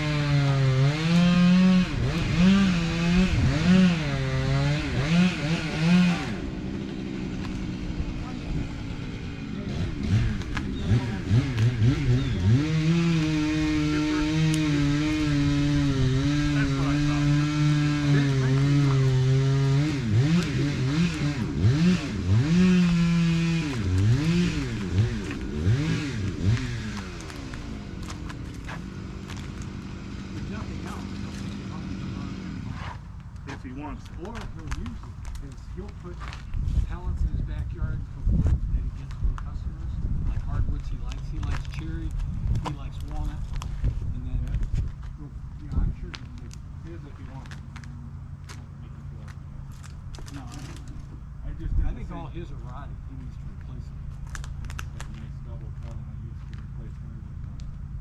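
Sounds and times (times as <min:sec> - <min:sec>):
engine running at high speed: 0:00.0 - 0:58.0.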